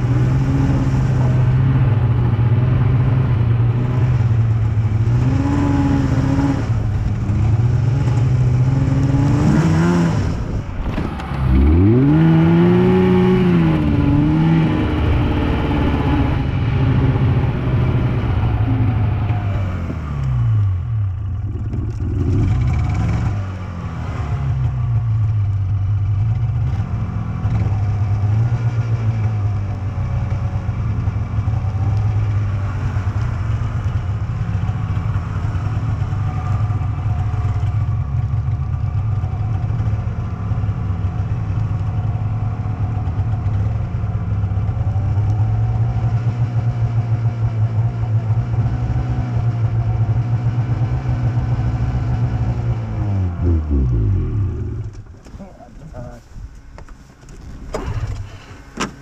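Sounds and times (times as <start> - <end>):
snowmobile engine running: 0.0 - 56.2.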